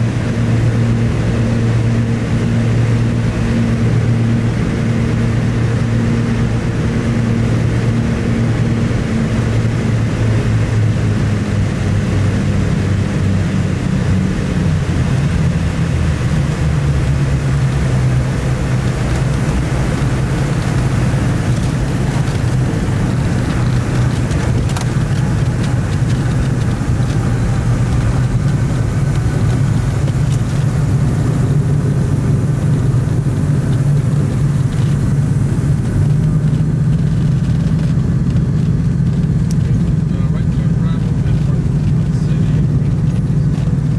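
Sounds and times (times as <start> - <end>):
piston engines droning: 0.0 - 43.9.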